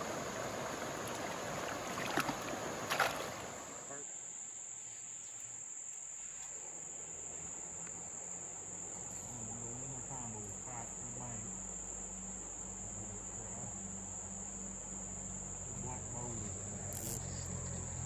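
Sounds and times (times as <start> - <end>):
insects chorus drone: 0.0 - 18.0.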